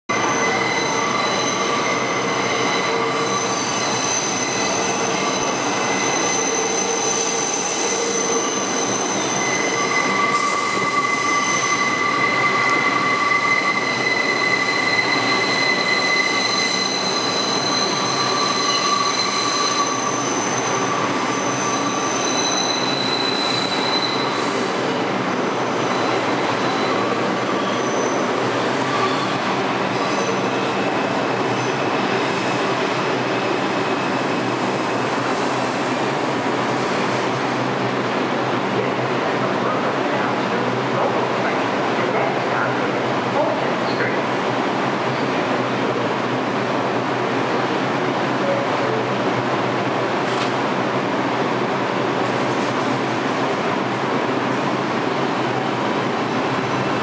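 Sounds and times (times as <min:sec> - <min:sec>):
subway train wheels rumbling: 0:00.1 - 0:57.0.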